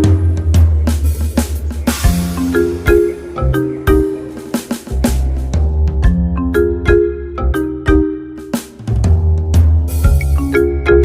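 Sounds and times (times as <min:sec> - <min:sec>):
heavy bass: 0:00.0 - 0:08.0, 0:08.9 - 0:11.0
drum beat: 0:00.0 - 0:11.0
mallet-like melody: 0:00.0 - 0:11.0.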